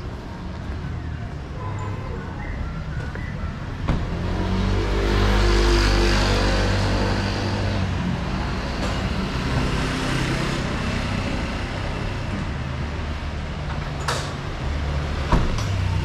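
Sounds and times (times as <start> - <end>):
steady road noise: 0.0 - 16.0.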